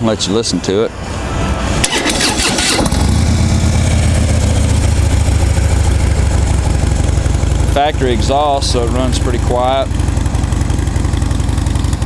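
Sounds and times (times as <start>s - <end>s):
motorcycle engine starting and idling: 1.8s - 12.0s.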